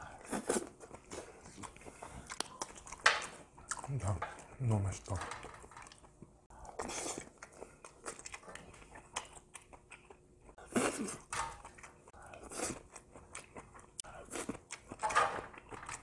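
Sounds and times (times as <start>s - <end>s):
person chewing: 0.0s - 4.7s, 5.6s - 16.0s.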